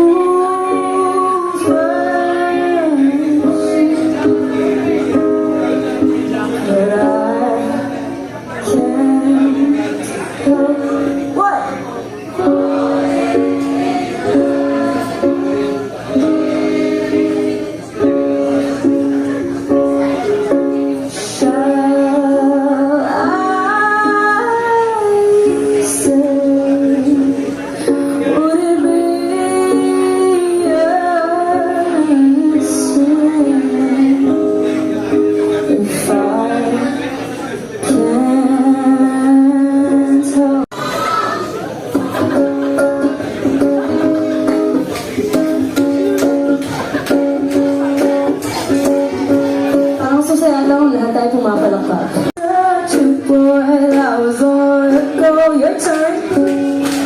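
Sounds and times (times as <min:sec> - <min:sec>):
instrumental accompaniment: 0:00.0 - 0:57.0
live band playing: 0:00.0 - 0:57.0.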